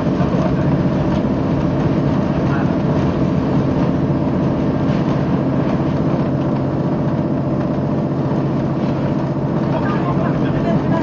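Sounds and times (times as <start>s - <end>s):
diesel train engine rumbling: 0.0s - 11.0s.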